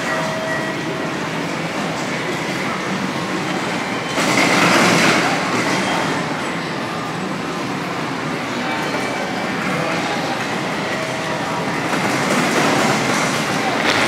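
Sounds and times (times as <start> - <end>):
train noise in station: 0.0 - 14.0.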